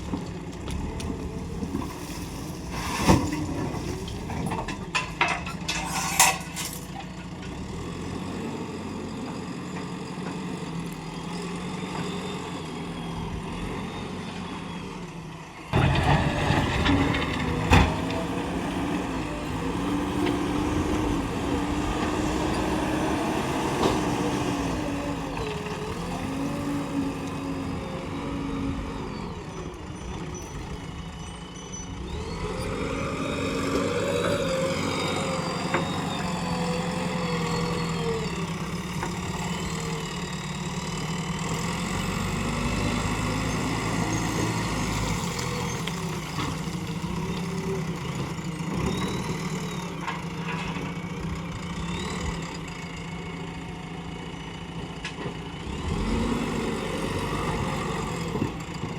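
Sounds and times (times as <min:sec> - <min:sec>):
diesel engine revving under load: 0:07.4 - 0:58.9.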